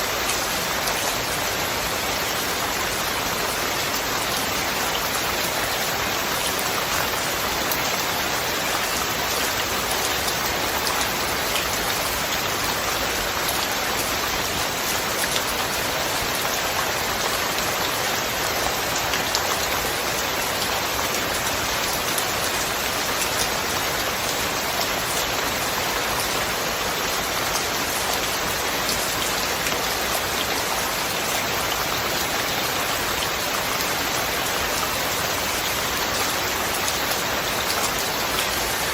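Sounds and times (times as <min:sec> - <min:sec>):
rain drops pattering: 0:00.0 - 0:38.9.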